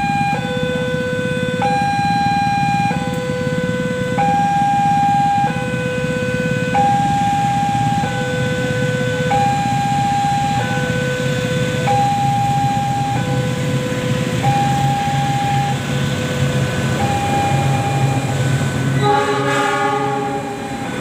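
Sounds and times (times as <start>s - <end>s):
train rumbling: 0.0s - 21.0s
two-tone crossing alarm: 0.0s - 21.0s
locomotive horn: 2.6s - 21.0s.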